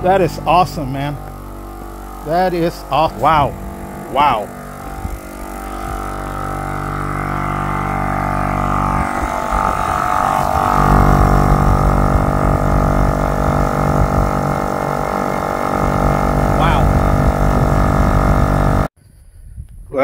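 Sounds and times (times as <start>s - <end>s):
air compressor droning hum: 0.0s - 18.9s.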